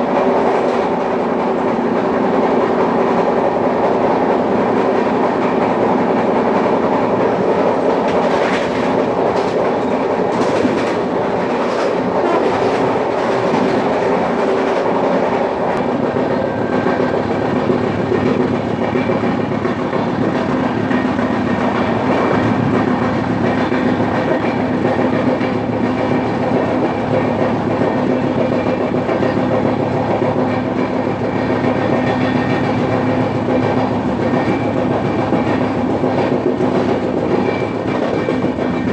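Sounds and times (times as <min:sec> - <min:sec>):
clickety-clack clicks: 0:00.0 - 0:38.9
train wheels rumbling on rail: 0:00.0 - 0:38.9.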